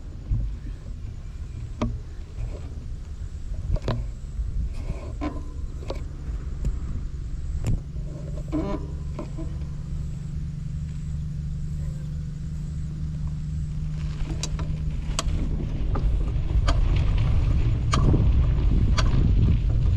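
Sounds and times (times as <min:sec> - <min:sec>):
quad bike engine running: 0:00.0 - 0:19.9.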